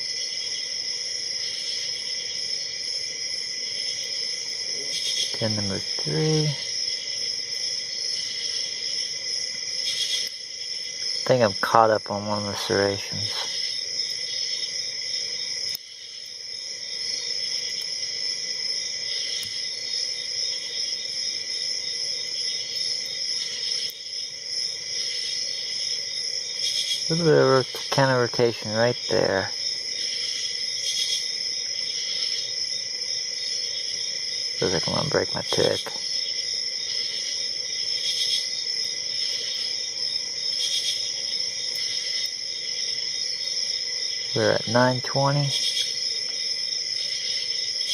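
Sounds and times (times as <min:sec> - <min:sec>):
insect chirring: 0:00.0 - 0:47.9.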